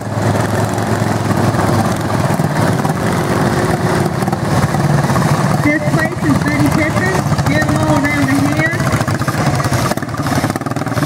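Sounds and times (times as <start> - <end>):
racing lawn mower engines: 0.0 - 11.0.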